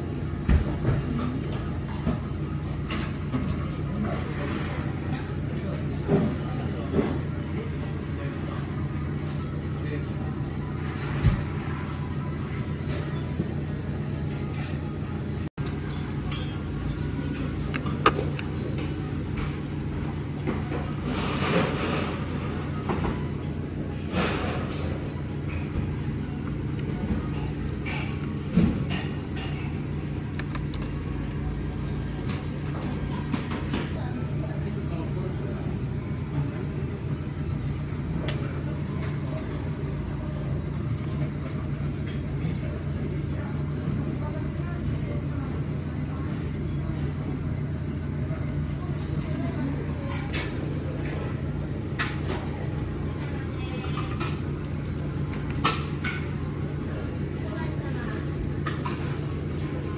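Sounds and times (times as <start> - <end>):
restaurant background hum: 0.0 - 59.9.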